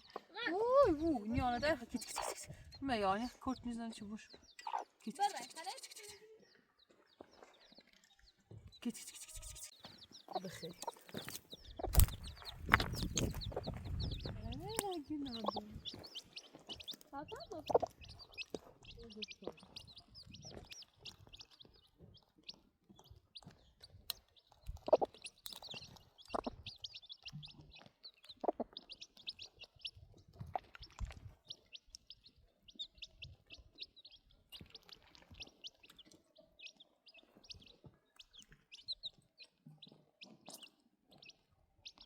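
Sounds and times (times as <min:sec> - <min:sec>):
small birds chirping rapidly: 0:00.0 - 0:42.0.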